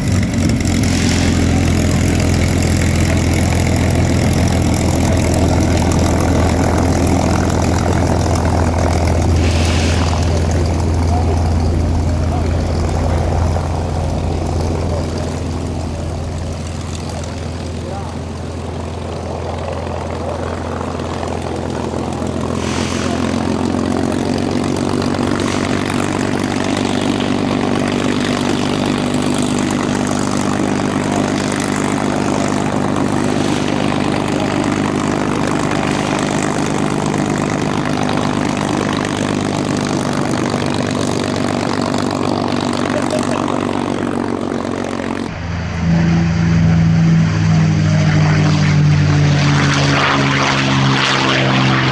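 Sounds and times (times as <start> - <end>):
piston engine and propeller: 0.0 - 51.9.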